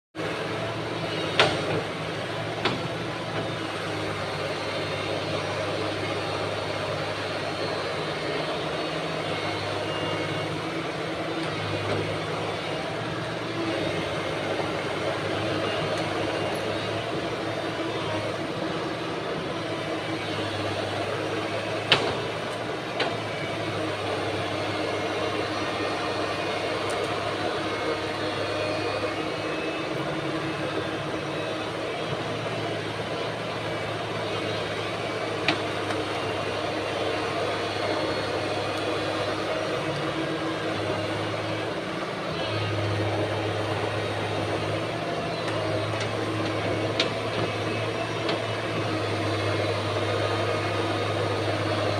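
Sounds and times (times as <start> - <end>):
diesel engine running: 0.2 - 51.9.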